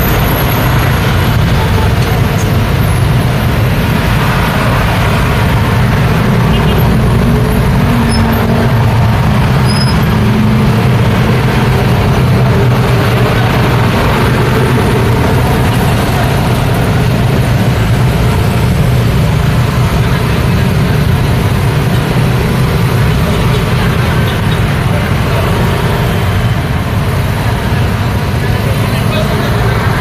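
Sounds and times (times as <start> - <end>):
motor scooter engines: 0.0 - 30.0
passing cars and trucks: 0.0 - 30.0.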